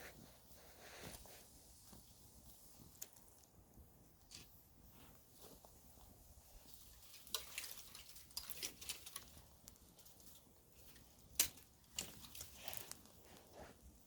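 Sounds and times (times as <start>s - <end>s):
wood campfire crackling: 0.0s - 14.0s.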